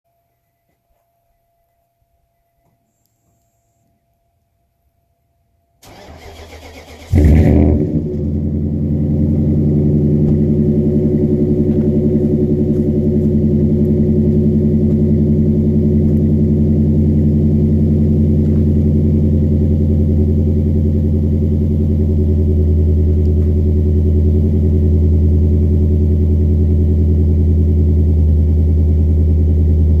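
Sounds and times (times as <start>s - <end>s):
engine starting and idling deeply: 5.8s - 30.0s.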